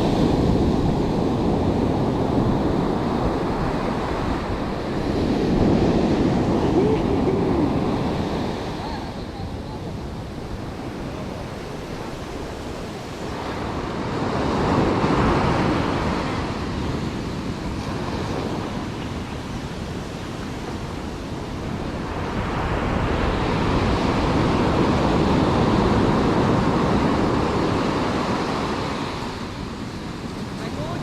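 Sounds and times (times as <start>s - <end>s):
surf breaking on a beach: 0.0s - 31.0s.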